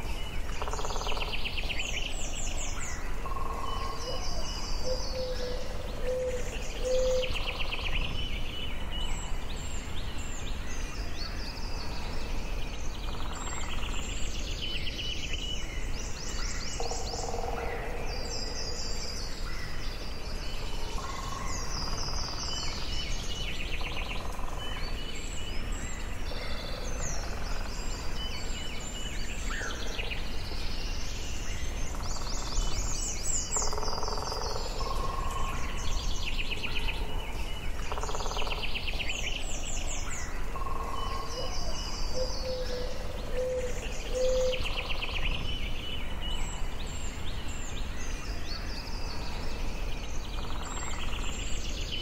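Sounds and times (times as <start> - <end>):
birds singing and calling: 0.0 - 52.0
low background hiss: 0.0 - 52.0.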